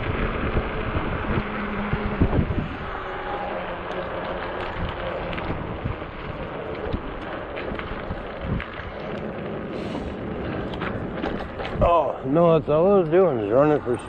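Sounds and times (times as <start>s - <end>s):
bike road rumble on pavement: 0.0s - 14.0s
wind buffeting microphone: 0.0s - 14.0s.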